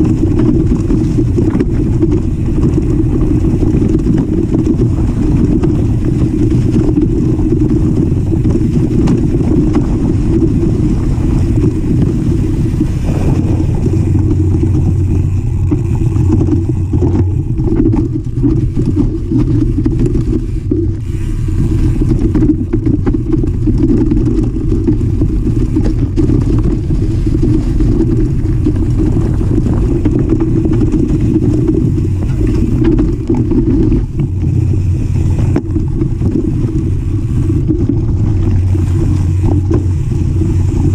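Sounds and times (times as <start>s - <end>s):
bike tyre and frame vibration: 0.0s - 40.9s
small rattles and knocks: 0.0s - 40.9s
wind rumble on microphone: 0.0s - 40.9s.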